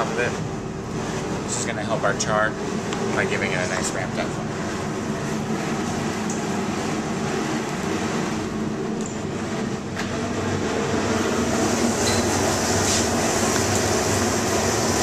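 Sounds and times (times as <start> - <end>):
kitchen grill and ventilation roar: 0.0 - 15.0.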